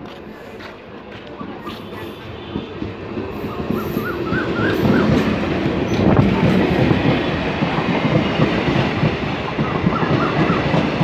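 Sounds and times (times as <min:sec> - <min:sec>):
train rushing past: 0:00.0 - 0:11.0.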